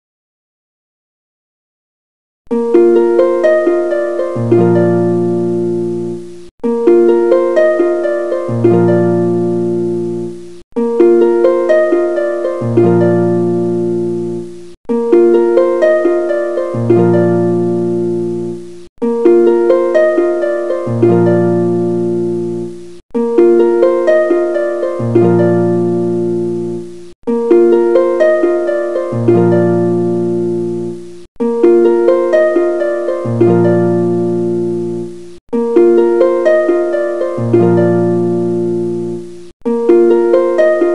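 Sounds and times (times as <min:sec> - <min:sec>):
harp-style plucked tune: 0:02.5 - 0:40.9.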